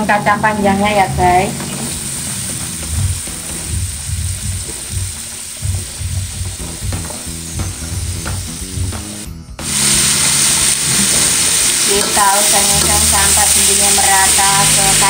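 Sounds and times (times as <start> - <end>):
beans sizzling in hot oil: 1.0 - 15.0.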